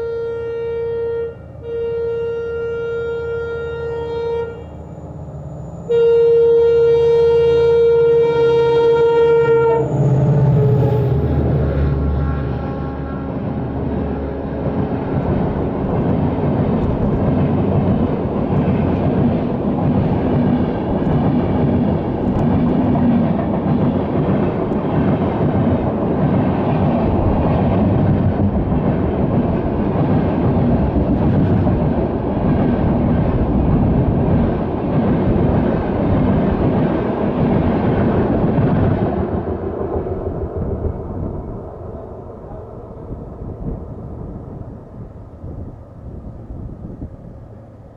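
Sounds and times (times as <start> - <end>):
passenger train passing: 0.0 - 47.9.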